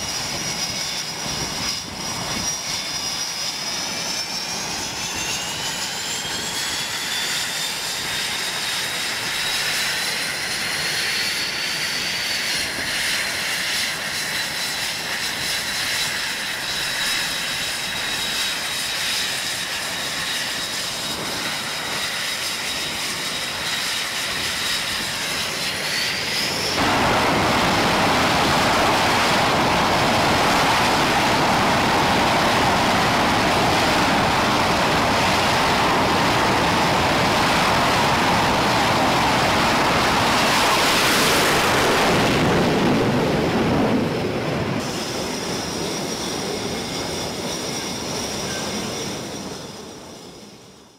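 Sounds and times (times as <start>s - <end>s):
jet engine turbine whine: 0.0s - 50.9s
loud steady rushing noise: 3.8s - 50.9s.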